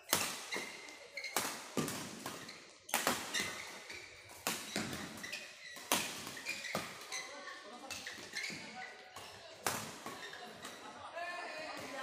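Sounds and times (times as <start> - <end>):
rackets striking shuttlecock: 0.1 - 7.1, 7.9 - 10.8.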